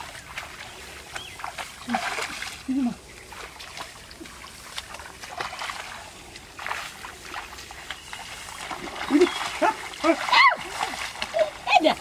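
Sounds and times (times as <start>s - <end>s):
hands splashing in muddy water: 0.0s - 12.0s
water dripping: 0.0s - 12.0s.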